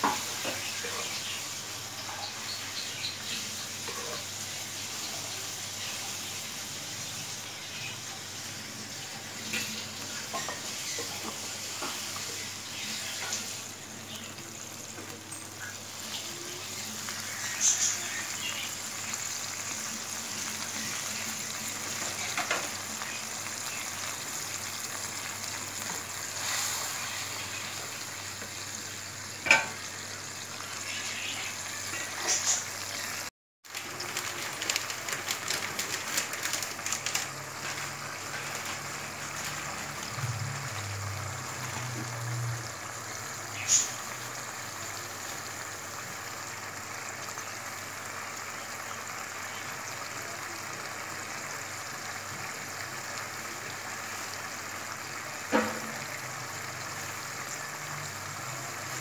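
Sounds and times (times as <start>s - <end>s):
masala paste sizzling in oil: 0.0s - 59.0s.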